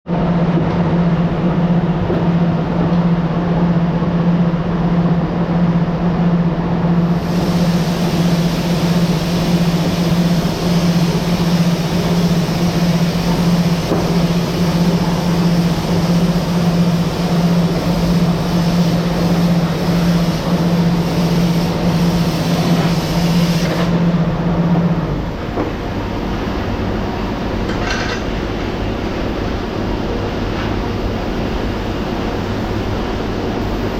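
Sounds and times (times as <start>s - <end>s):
factory machinery humming: 0.1s - 33.9s.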